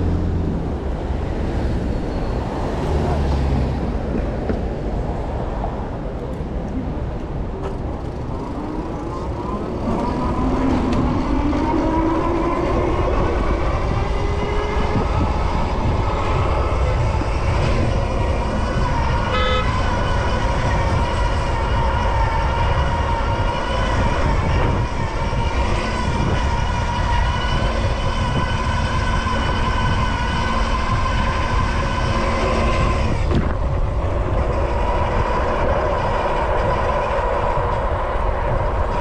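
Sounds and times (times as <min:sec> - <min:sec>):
road and traffic noise: 0:00.0 - 0:39.0
wind rushing over microphone: 0:00.0 - 0:39.0.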